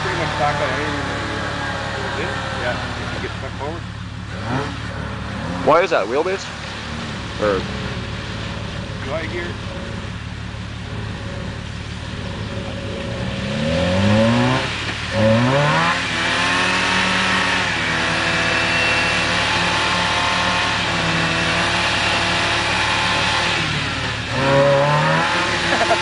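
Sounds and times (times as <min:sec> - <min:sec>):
engine revving: 0:00.0 - 0:26.0
water splashing and churning: 0:00.1 - 0:26.0.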